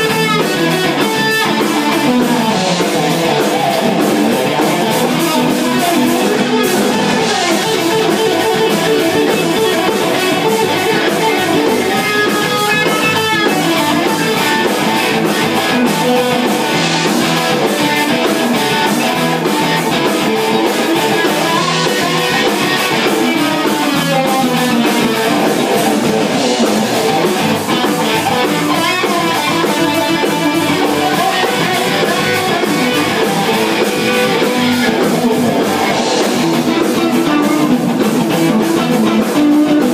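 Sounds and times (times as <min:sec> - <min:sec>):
live guitar jam music: 0:00.0 - 0:39.9.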